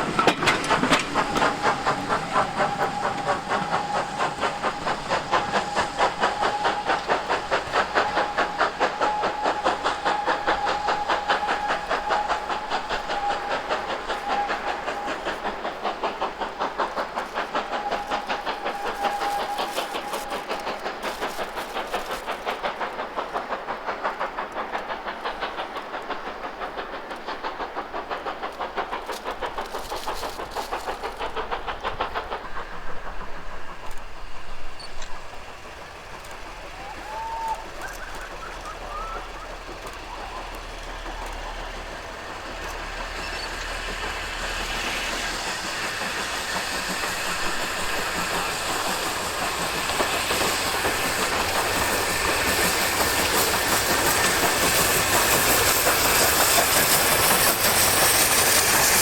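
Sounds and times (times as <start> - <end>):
steam hiss: 0.0 - 59.0
steam locomotive exhaust beats: 0.0 - 59.0.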